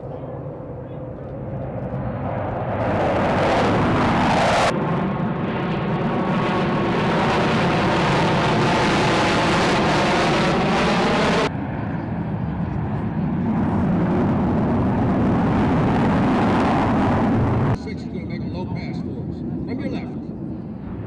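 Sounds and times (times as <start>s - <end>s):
jet planes roaring overhead: 0.0s - 21.0s.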